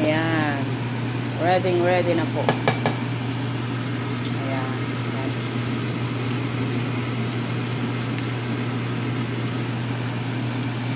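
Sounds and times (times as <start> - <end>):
kitchen motor humming: 0.0 - 10.9
rice bubbling in a pan: 0.0 - 10.9.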